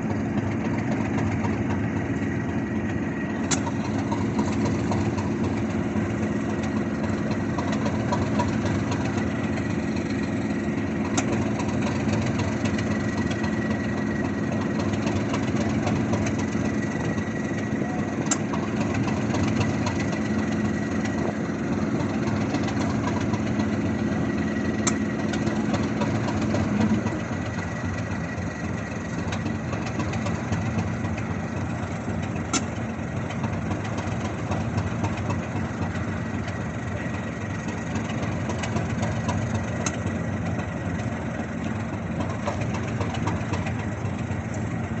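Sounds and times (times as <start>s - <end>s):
locomotive idling hum: 0.0s - 45.0s.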